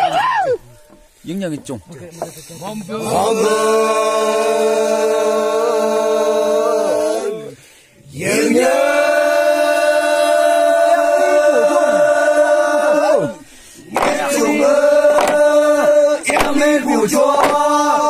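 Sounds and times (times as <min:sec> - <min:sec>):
men chanting in unison: 0:02.7 - 0:18.0.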